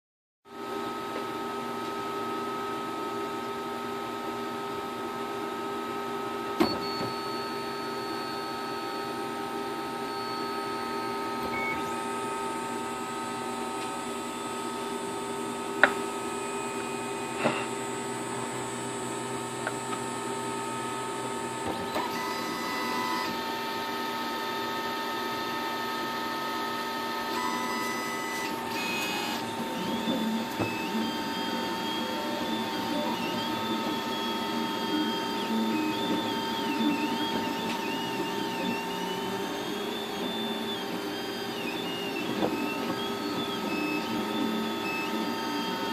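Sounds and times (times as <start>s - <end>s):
printer motors and fans whining: 0.5s - 45.9s.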